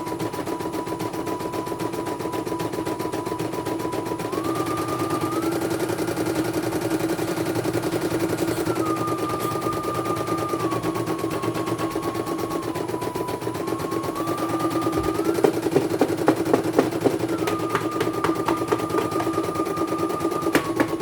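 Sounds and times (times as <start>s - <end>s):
machine whine: 0.0s - 21.0s
motor hum: 0.8s - 21.0s.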